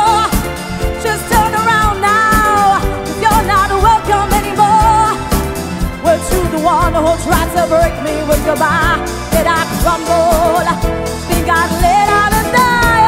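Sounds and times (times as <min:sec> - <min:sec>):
woman singing into microphone: 0:00.0 - 0:13.0.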